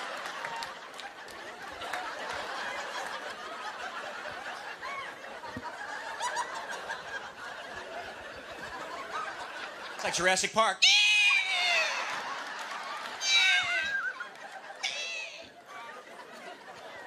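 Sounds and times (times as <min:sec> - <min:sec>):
audience laughing: 0:00.0 - 0:10.3, 0:11.3 - 0:17.0.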